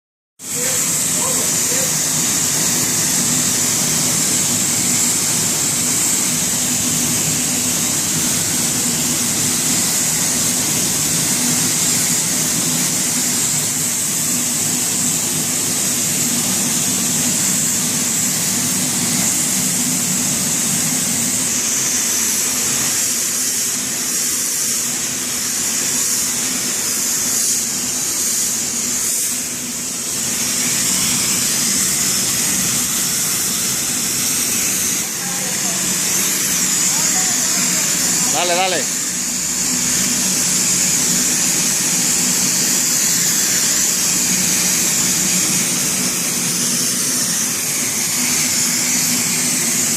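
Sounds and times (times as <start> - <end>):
pressure washer spray hissing: 0.4 - 49.9
pump and motor hum: 0.4 - 49.9.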